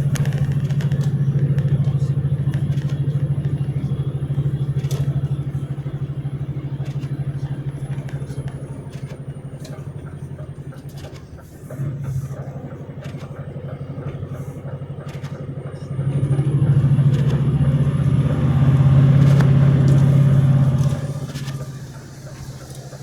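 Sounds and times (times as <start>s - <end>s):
vehicle engine droning: 0.0s - 23.0s.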